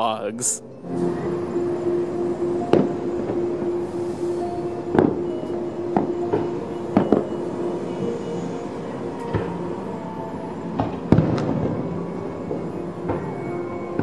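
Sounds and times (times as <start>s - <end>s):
distant fireworks booming: 1.0s - 9.9s, 10.5s - 14.0s.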